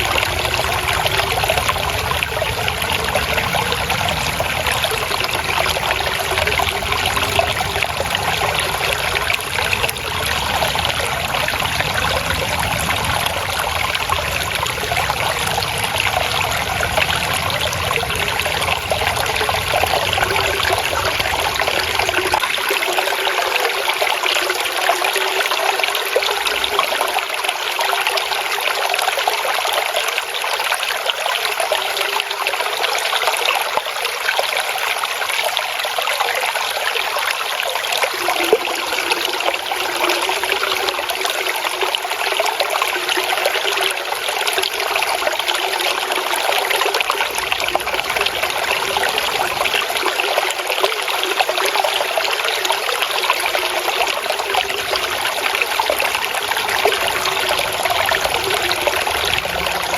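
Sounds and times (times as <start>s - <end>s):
stream trickling and splashing: 0.0s - 59.9s.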